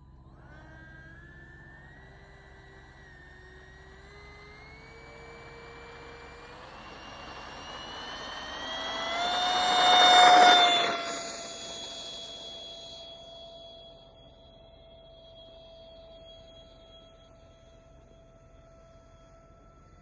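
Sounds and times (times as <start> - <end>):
ducted fan jet whine: 0.0 - 20.0.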